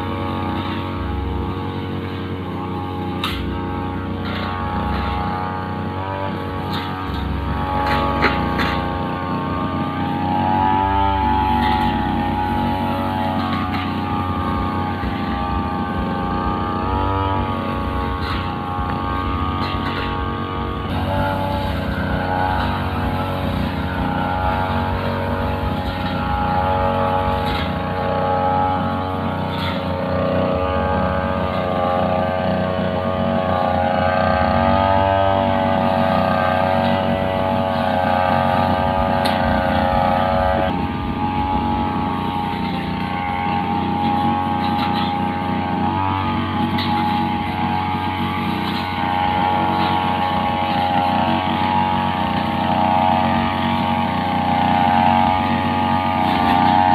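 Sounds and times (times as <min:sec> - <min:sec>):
brushcutter engine at high revs: 0:00.0 - 0:56.9.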